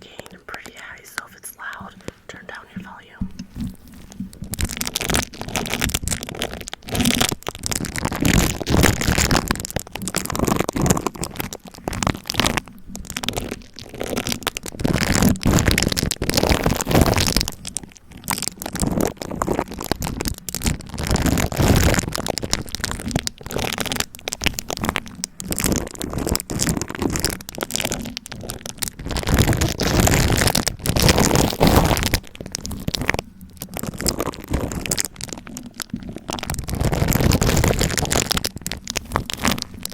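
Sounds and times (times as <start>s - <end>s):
cling wrap crackling on microphone: 0.0s - 39.9s.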